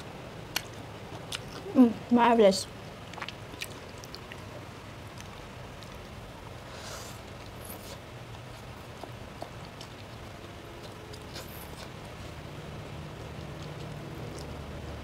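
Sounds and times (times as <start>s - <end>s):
steady low hum: 0.0s - 15.0s
chewing and smacking: 0.5s - 1.8s, 3.0s - 6.2s, 7.3s - 15.0s.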